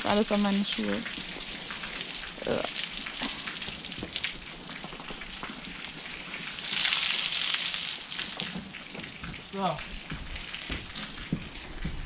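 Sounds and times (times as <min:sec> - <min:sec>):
rain pattering on tarpaulin: 0:00.0 - 0:12.0
rushing water running off: 0:00.0 - 0:12.0.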